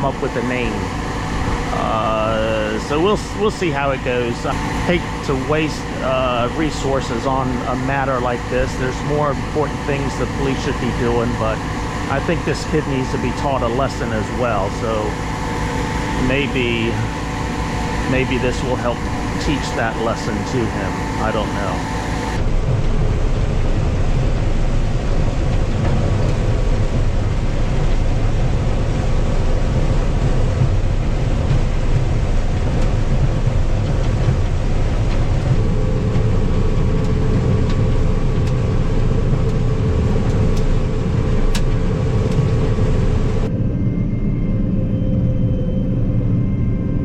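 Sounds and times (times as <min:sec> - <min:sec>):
combine harvester droning: 0:00.0 - 0:47.0.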